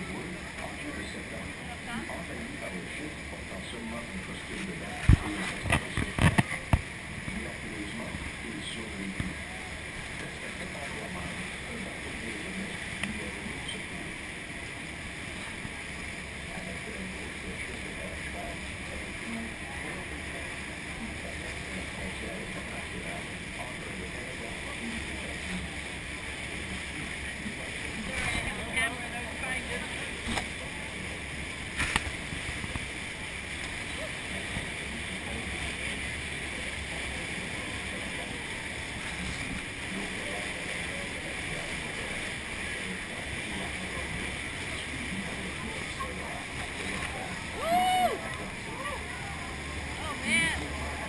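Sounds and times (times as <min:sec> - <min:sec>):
churning water: 0:00.0 - 0:51.0
low steady hum: 0:00.0 - 0:51.0.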